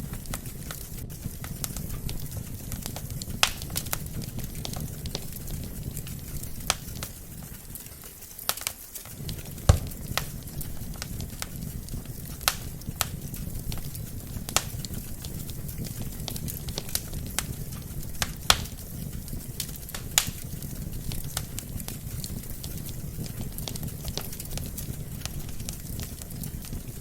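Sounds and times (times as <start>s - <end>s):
logs crackling in fireplace: 0.0s - 27.0s.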